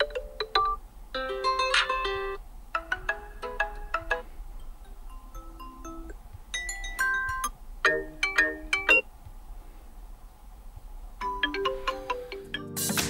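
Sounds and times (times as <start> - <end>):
phone ringtone beeping melody: 0.0 - 9.1, 11.2 - 13.0.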